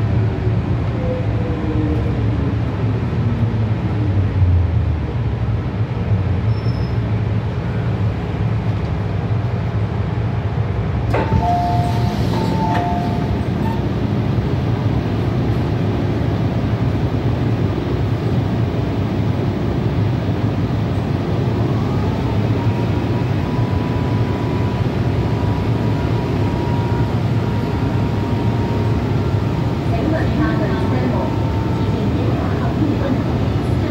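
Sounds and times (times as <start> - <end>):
train running rumble: 0.0 - 33.9
train whine: 0.0 - 33.9.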